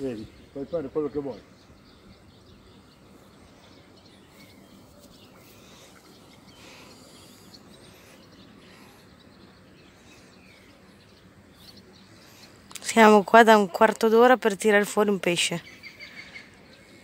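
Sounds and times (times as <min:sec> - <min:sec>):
faint bird chirps: 0:00.0 - 0:13.4, 0:15.6 - 0:17.0
low background noise: 0:00.0 - 0:17.0.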